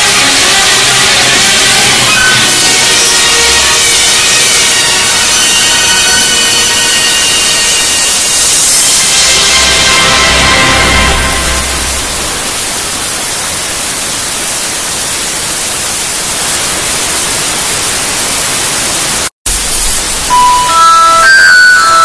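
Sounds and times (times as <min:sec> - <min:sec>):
loud static hiss: 0:00.0 - 0:22.0.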